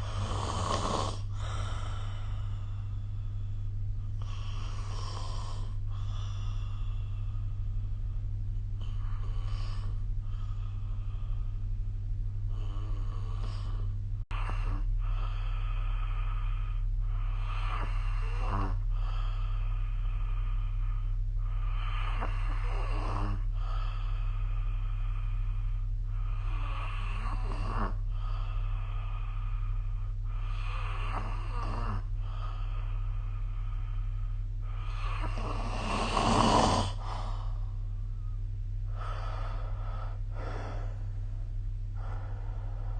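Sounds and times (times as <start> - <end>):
person snoring: 0.0 - 3.5, 4.2 - 7.8, 8.8 - 11.7, 12.5 - 38.3
steady low hum: 0.0 - 42.9.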